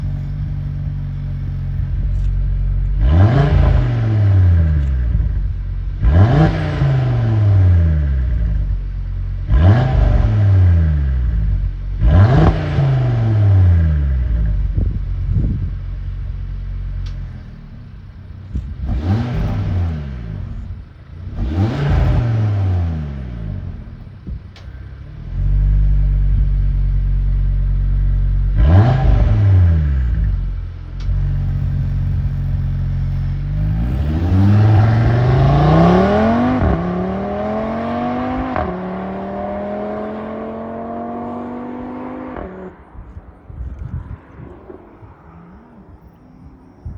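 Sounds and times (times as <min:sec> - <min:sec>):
car engine revving: 0:00.0 - 0:46.9
exhaust pops: 0:00.0 - 0:46.9.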